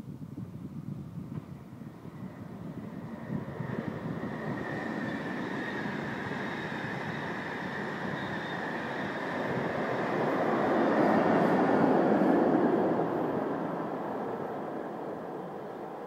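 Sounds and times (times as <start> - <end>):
train wheels rumbling on rails: 1.2 - 16.0.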